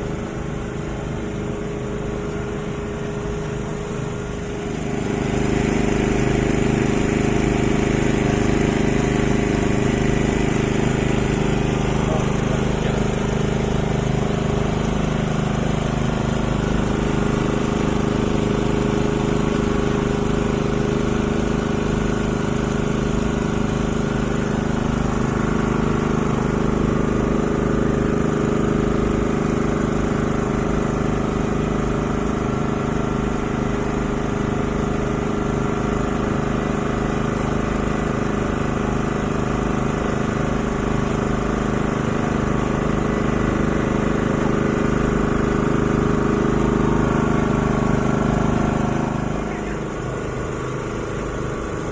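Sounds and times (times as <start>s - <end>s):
machine motor humming: 0.0s - 51.9s.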